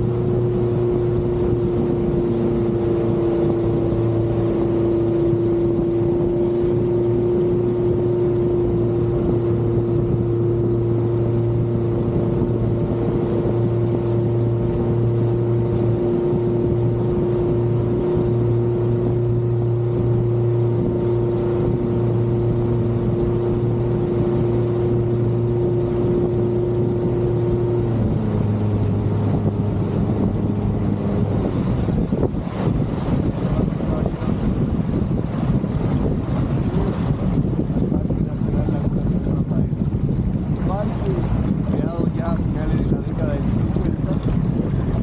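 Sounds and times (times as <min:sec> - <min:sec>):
outboard motor running: 0:00.0 - 0:45.0.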